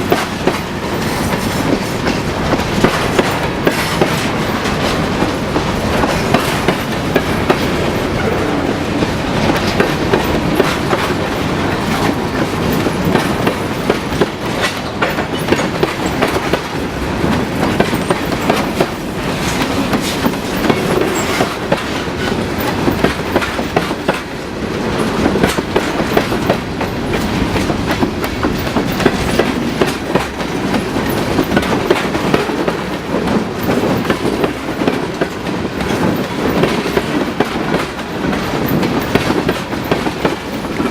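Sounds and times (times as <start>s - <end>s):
freight train rolling past: 0.0s - 40.9s
wheels clicking over rail joints: 0.0s - 40.9s.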